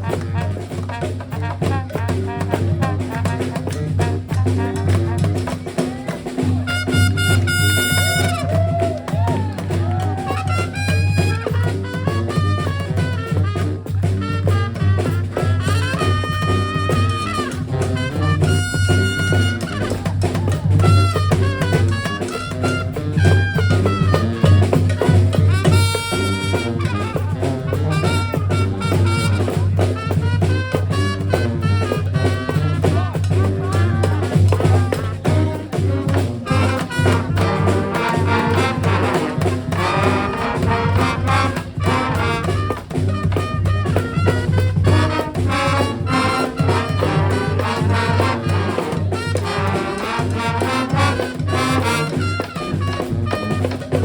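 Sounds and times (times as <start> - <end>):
horns playing a tune: 0.0 - 54.0
steady drum beat: 0.0 - 54.0.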